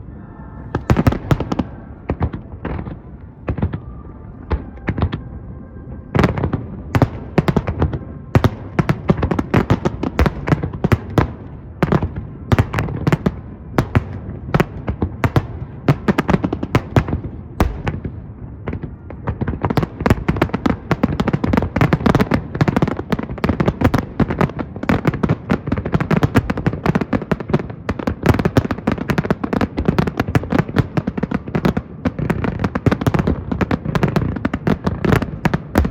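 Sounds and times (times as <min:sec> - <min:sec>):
fireworks bursting with bangs: 0:00.6 - 0:05.4, 0:06.1 - 0:35.9
fireworks crackle: 0:06.2 - 0:35.9.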